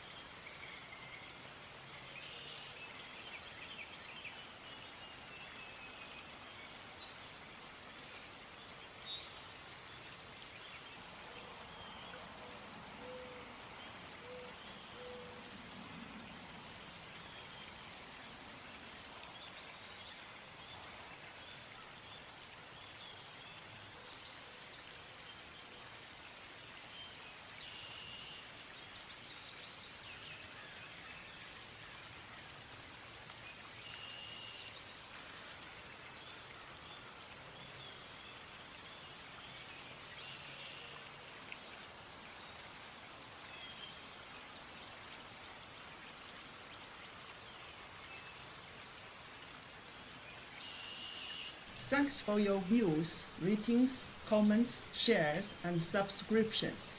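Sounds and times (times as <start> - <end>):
outdoor background hiss: 0.0 - 56.9.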